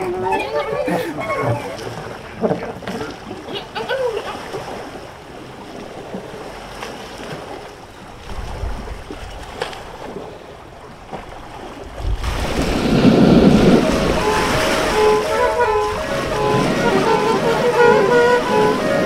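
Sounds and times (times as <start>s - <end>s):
sea waves and surf: 0.0s - 19.0s.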